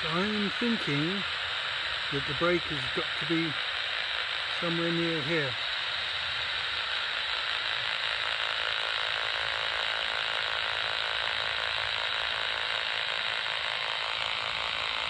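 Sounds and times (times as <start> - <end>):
radio speaker rasping buzz: 0.0 - 15.0.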